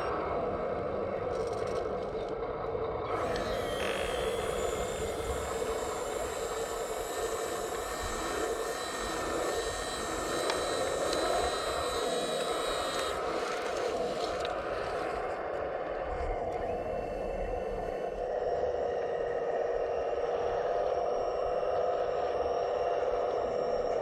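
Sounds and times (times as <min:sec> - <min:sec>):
hydraulic pump whine: 0:00.0 - 0:24.0.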